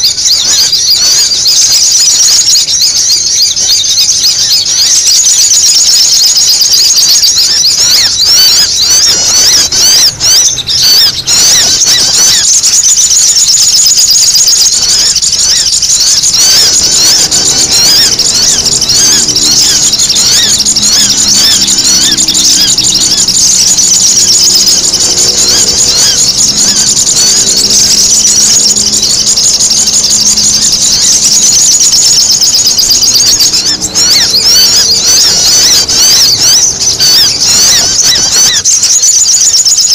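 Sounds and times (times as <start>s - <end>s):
birds chattering calls: 0.0s - 39.9s
faint low hum: 6.2s - 39.0s.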